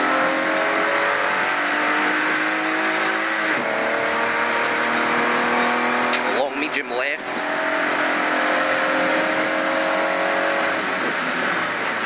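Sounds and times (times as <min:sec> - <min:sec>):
rally car engine at full throttle: 0:00.0 - 0:12.0
road and tyre noise: 0:00.0 - 0:12.0.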